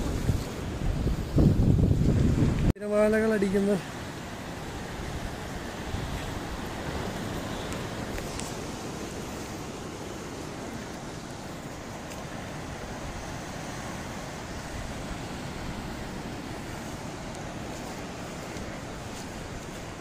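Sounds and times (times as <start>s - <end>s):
wind on microphone: 0.0s - 2.8s, 4.7s - 20.0s
sea surf breaking on rocks: 0.0s - 20.0s.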